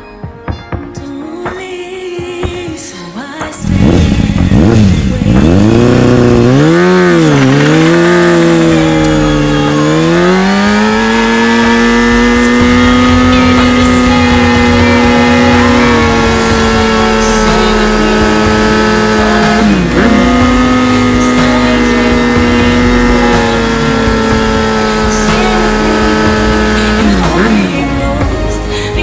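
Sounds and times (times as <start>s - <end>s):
motorcycle engine revving: 3.5s - 29.0s.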